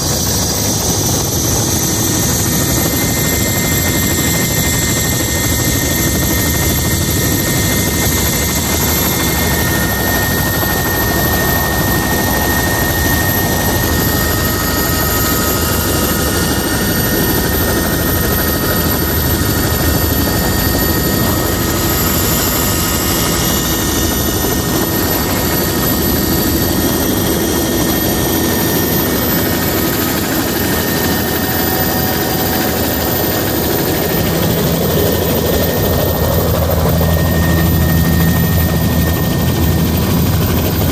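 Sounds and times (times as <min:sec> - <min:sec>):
helicopter engine and rotor noise: 0:00.0 - 0:40.9
thin high whine: 0:00.0 - 0:40.9.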